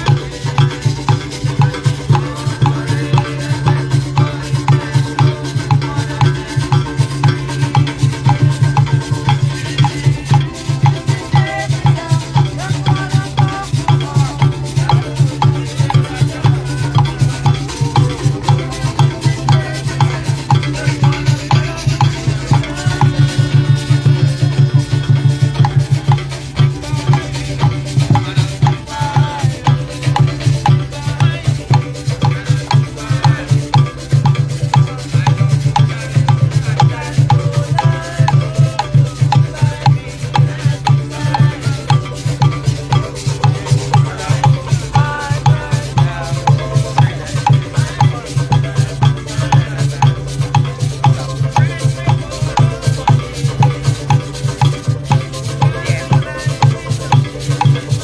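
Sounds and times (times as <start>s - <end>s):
hand drums beating: 0.0s - 58.0s
maracas shaking: 0.0s - 58.0s.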